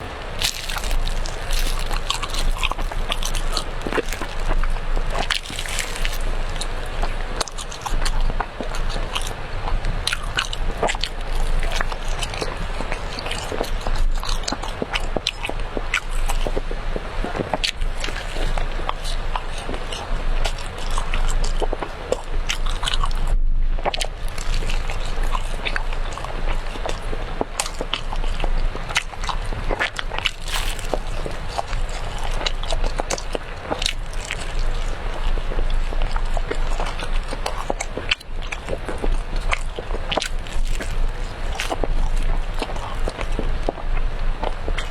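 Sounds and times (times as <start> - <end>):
biting and chewing mouth sounds: 0.0 - 44.9
steady low hum: 0.0 - 44.9.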